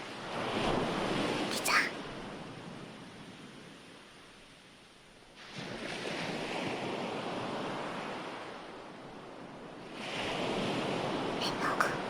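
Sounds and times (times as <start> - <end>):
ocean waves washing in: 0.0 - 12.0.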